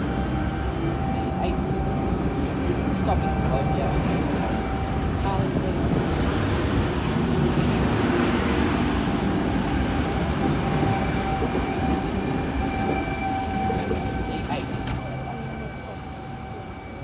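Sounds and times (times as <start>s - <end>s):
train wheels rumbling: 0.0s - 16.7s.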